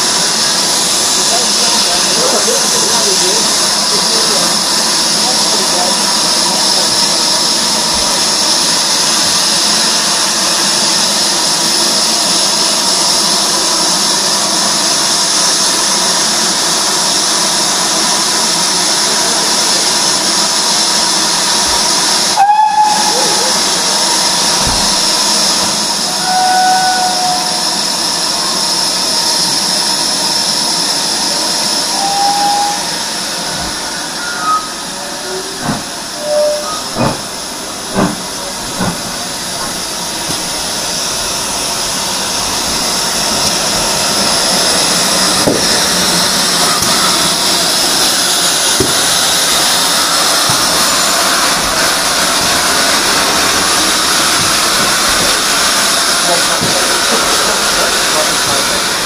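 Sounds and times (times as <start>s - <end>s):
steam locomotive hissing steam: 0.0s - 59.0s.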